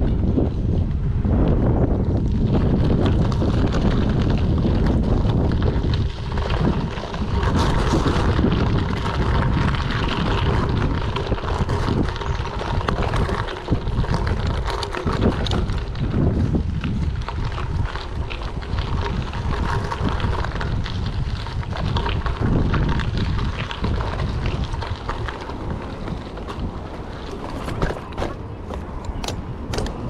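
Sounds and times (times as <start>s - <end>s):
wind buffeting microphone: 0.0s - 30.0s
tyres crackling over gravel: 1.3s - 30.0s.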